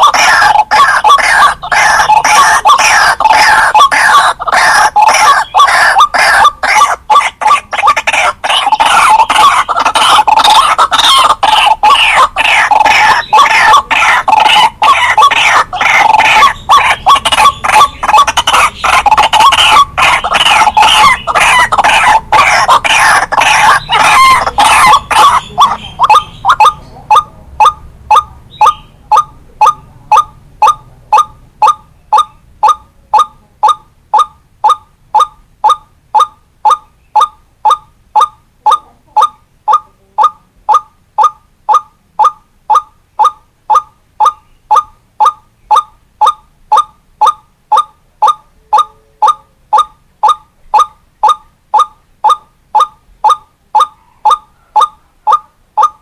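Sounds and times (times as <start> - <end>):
waterhen croaking calls: 0.0 - 56.0.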